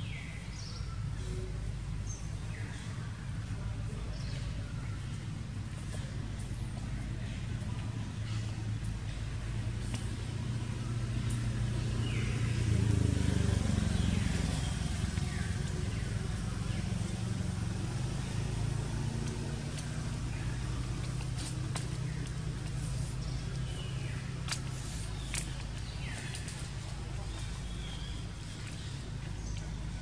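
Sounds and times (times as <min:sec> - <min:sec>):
motor vehicle engine hum: 0:00.0 - 0:30.0.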